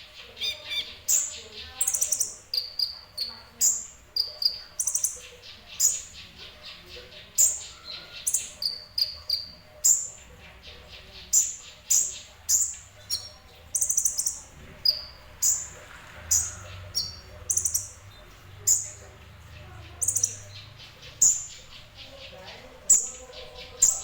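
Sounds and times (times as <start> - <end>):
sunbird singing high chirps and trills: 0.0 - 24.0.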